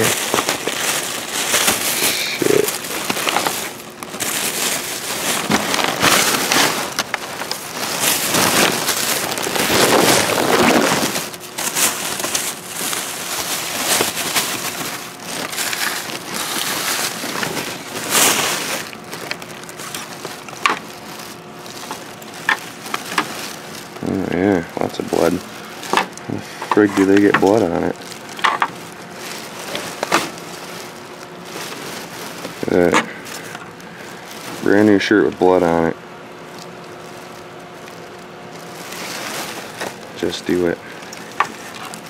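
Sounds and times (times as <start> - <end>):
plastic bags rustling and crinkling: 0.0 - 42.0.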